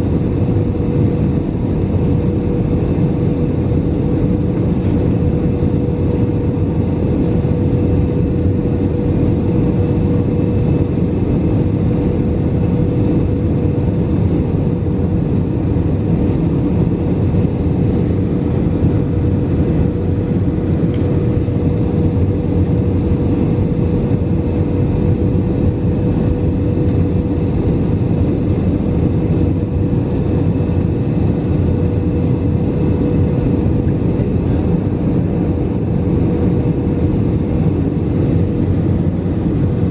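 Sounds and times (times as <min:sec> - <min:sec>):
constant hum: 0:00.0 - 0:39.9
jet engines and airflow rushing: 0:00.0 - 0:39.9.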